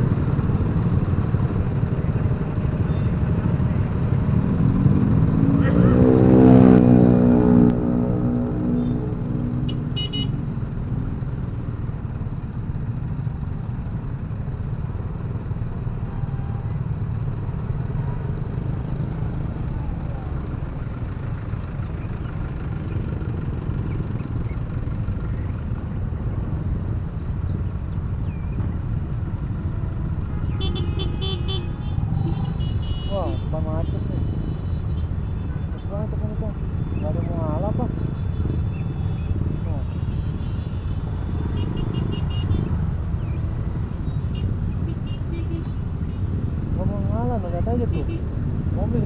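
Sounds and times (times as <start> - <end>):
motorcycle rumble: 0.0 - 49.0.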